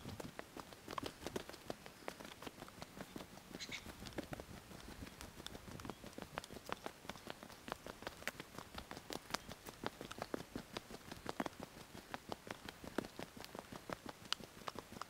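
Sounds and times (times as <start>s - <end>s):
footsteps on a dirt path: 0.0s - 15.0s.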